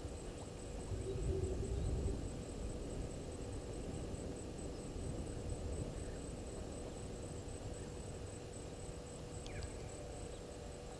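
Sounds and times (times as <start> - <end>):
insect chirp pulsing: 0.0 - 10.9
low steady rumble: 0.0 - 10.9.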